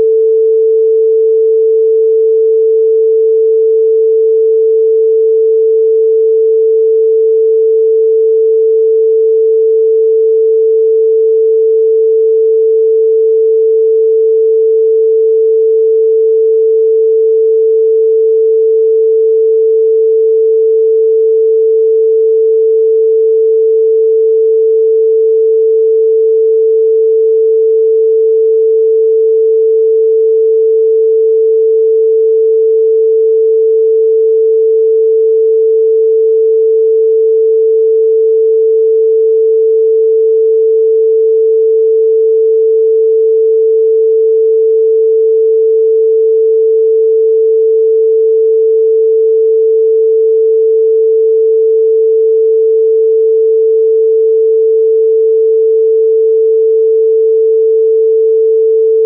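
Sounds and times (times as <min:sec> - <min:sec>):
pure sine tone: 0:00.0 - 0:59.0.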